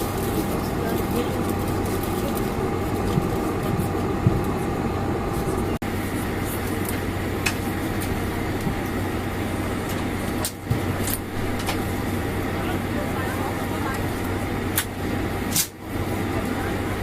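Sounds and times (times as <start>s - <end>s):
airliner cabin rumble and hum: 0.0s - 17.0s.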